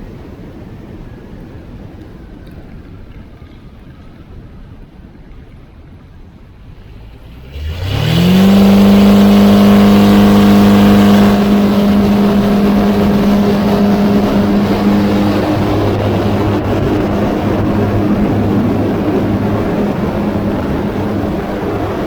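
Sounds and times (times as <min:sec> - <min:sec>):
light aircraft engine: 0:00.0 - 0:22.0.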